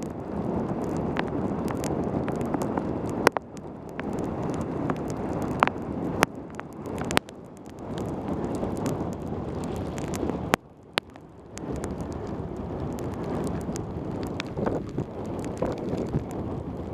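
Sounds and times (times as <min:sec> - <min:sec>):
wet tyre noise: 0:00.0 - 0:16.9
wind rushing on microphone: 0:00.0 - 0:16.9.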